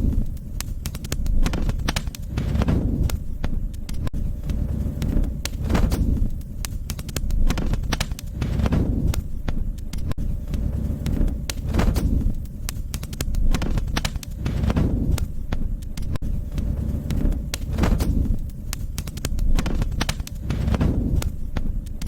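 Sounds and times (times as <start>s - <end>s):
low rumble of flame: 0.0s - 22.0s
wood fire crackling: 0.0s - 22.0s.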